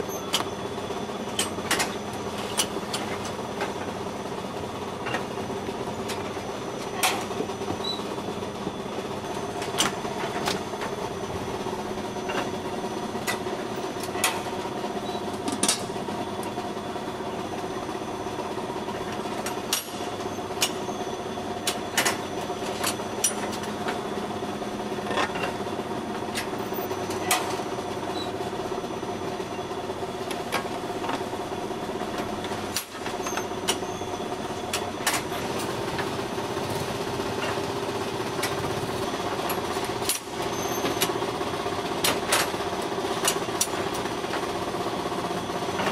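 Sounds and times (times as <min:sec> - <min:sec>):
machine mechanical hum: 0:00.0 - 0:45.9.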